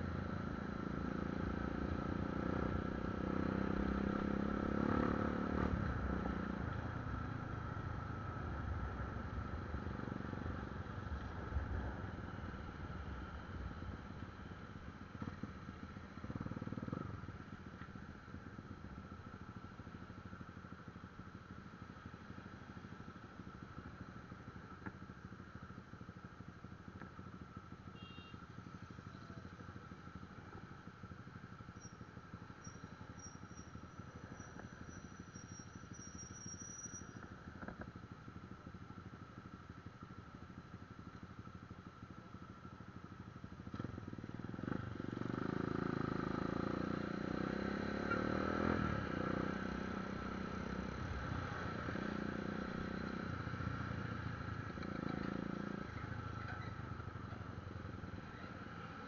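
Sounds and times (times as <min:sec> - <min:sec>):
motorcycle engine: 0:00.0 - 0:23.8, 0:24.6 - 0:36.4, 0:37.1 - 0:59.0
traffic noise: 0:00.0 - 0:59.0.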